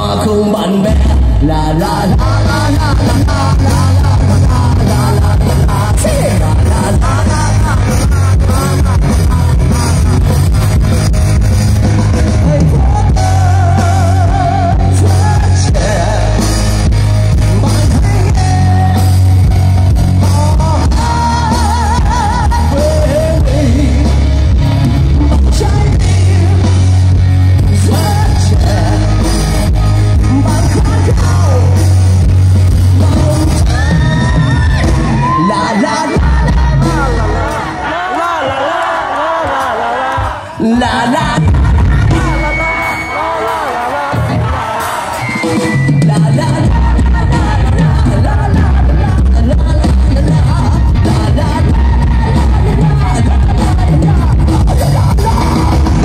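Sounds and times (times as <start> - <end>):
person singing: 0.0 - 11.2, 12.2 - 56.0
drums: 0.0 - 56.0
electric guitars: 0.0 - 56.0
heavy bass: 0.0 - 56.0.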